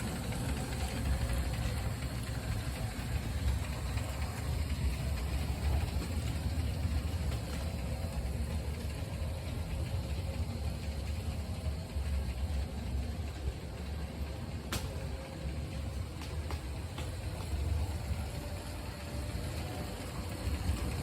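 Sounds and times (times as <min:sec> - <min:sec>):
faint steady whine: 0:00.0 - 0:21.0
model locomotive motor rumble: 0:00.0 - 0:21.0.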